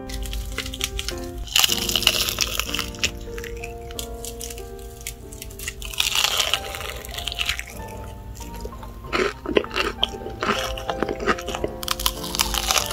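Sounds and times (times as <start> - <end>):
background music with held notes: 0.0 - 12.9
crispy food crackling and crunching: 0.0 - 12.9.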